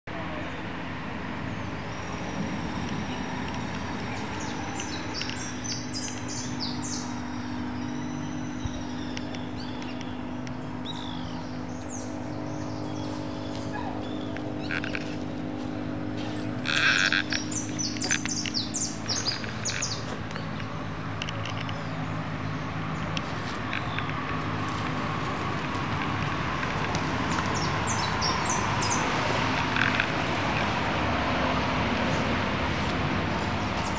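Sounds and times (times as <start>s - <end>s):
small birds chirping: 1.4s - 33.9s.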